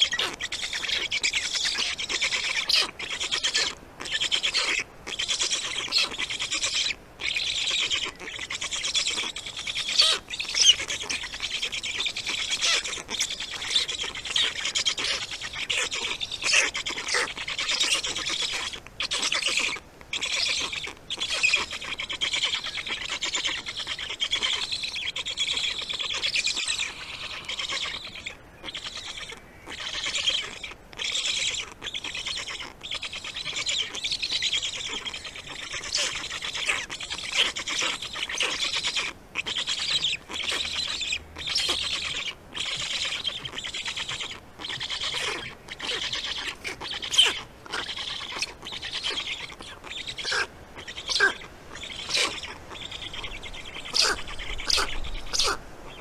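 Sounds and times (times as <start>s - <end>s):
stork chicks begging calls: 0.0s - 56.0s.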